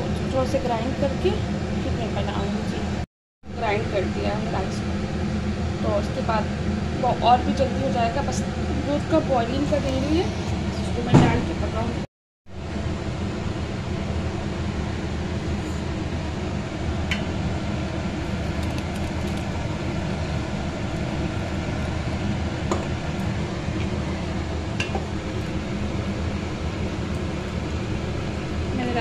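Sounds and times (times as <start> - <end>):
kitchen machine hum: 0.0 - 29.0.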